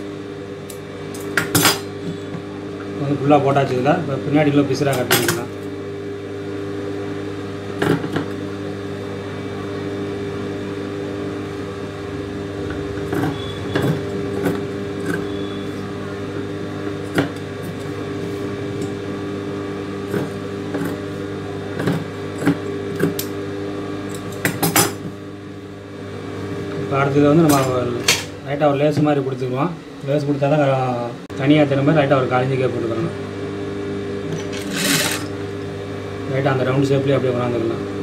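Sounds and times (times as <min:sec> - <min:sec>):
steady electric hum: 0:00.0 - 0:38.0.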